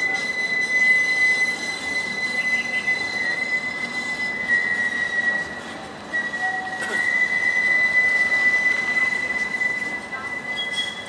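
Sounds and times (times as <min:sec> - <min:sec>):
street noise: 0:00.0 - 0:11.0
tram wheels squealing: 0:00.0 - 0:11.0.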